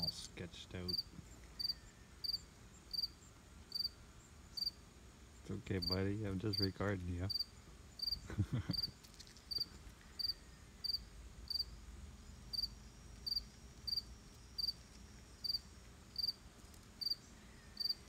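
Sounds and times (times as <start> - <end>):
cricket chirping: 0.9 - 4.8, 5.8 - 6.7, 7.3 - 16.4, 17.0 - 18.0.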